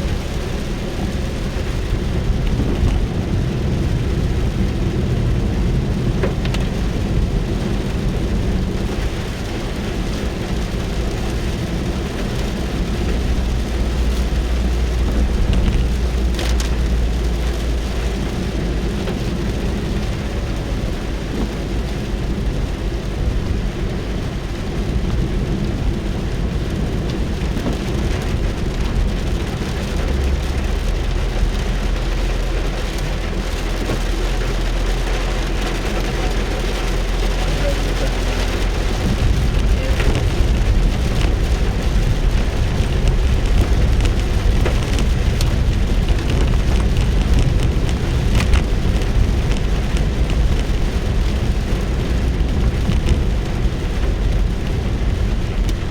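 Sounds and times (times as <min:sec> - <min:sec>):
low rumble: 0:00.0 - 0:55.9
rain on a car roof: 0:00.0 - 0:55.9.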